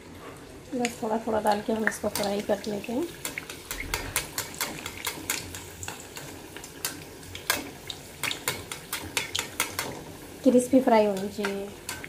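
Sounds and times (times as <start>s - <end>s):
hot oil crackling and popping: 0.4s - 12.0s.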